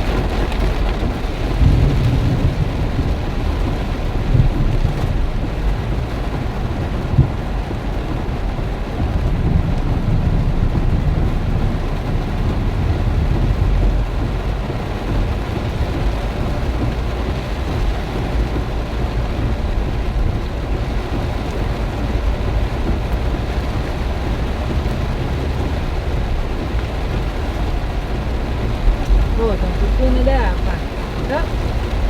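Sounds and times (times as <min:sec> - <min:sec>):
heavy rain: 0:00.0 - 0:32.0
strong wind rushing: 0:00.0 - 0:32.0.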